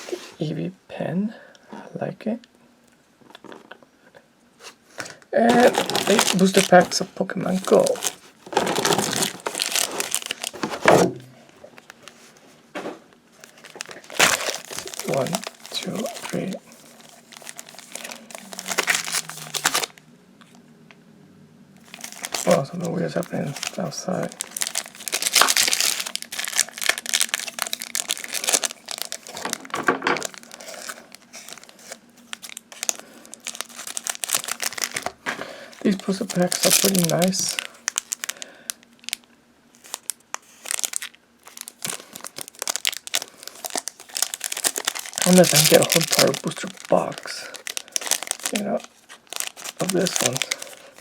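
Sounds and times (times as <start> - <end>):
packaging crinkling and rustling: 5.0 - 20.6, 21.8 - 51.0.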